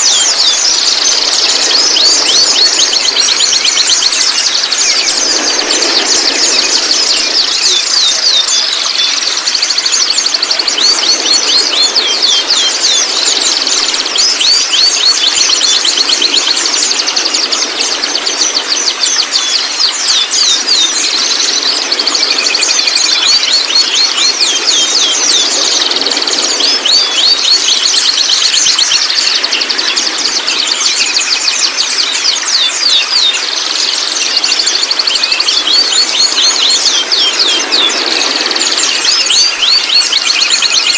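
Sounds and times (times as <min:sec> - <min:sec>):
bird rattling call: 0:00.0 - 0:40.9.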